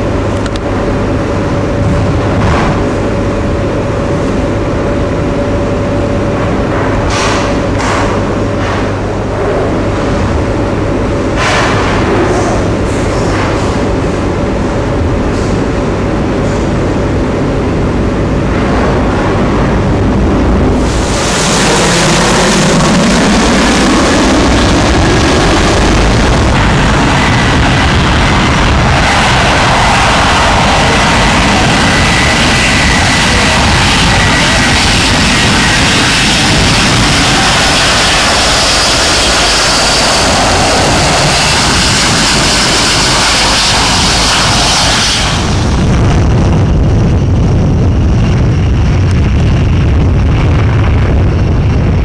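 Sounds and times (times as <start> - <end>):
jet airliner engine roar: 0.0 - 52.0.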